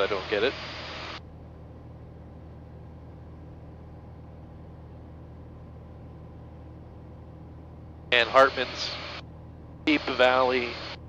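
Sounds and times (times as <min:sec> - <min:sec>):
light aircraft engine and propeller drone: 0:00.0 - 0:11.0.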